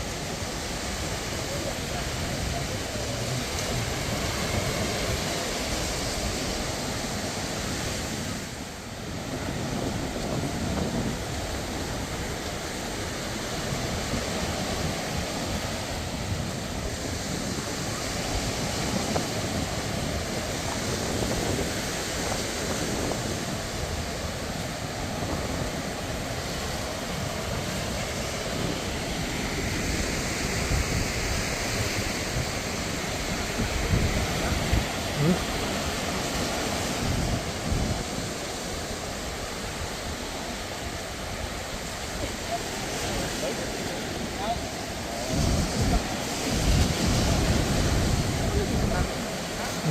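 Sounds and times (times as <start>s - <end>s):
surf washing onto beach: 0.0s - 49.9s
wind buffeting microphone: 0.0s - 49.9s.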